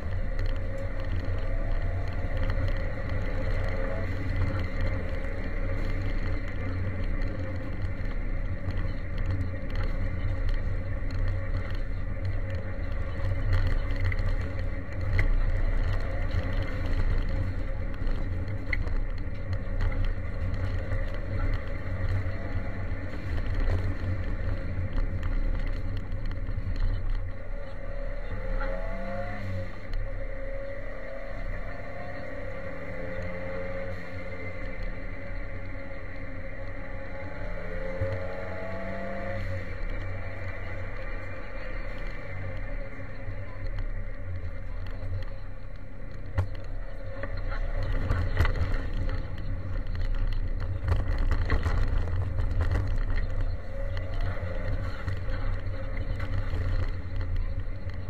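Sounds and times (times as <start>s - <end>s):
gravel crackling under car: 0.0s - 58.0s
rally car engine running hard: 0.0s - 58.0s.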